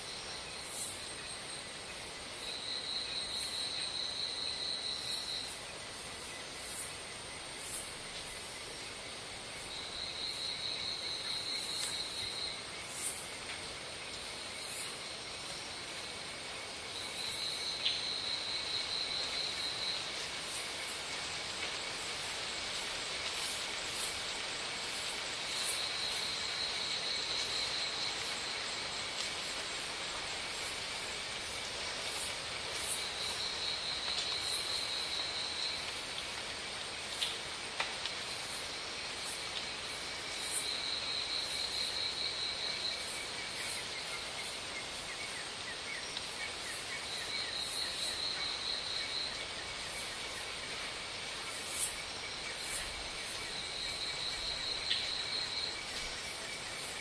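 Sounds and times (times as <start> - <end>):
insect chorus hiss: 0.0 - 57.0.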